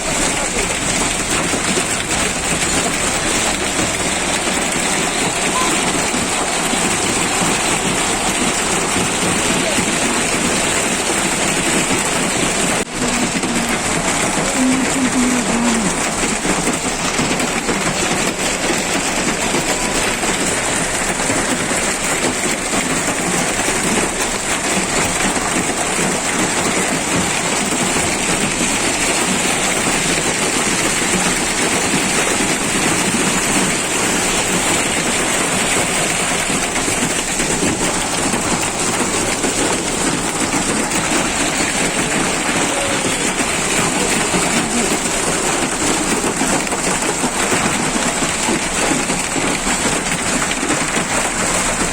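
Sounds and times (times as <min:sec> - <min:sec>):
hail and rain pelting down: 0:00.0 - 0:51.9.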